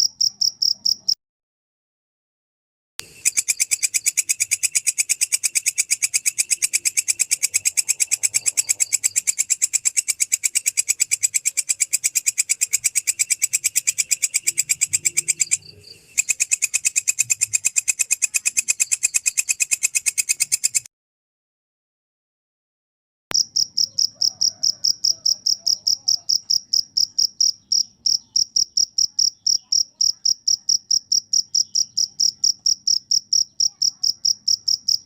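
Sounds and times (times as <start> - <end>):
insect chirping: 0.0 - 1.2, 3.0 - 20.9, 23.3 - 35.0.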